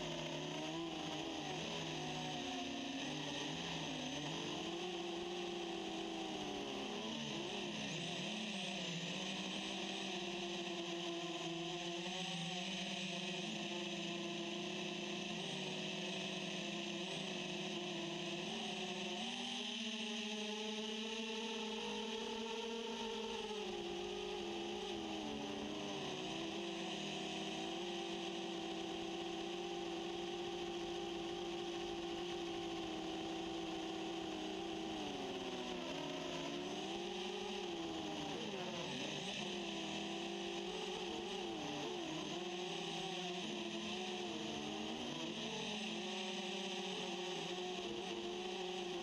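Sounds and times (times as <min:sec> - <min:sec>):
drone motors humming: 0:00.0 - 0:19.2, 0:19.8 - 0:49.0.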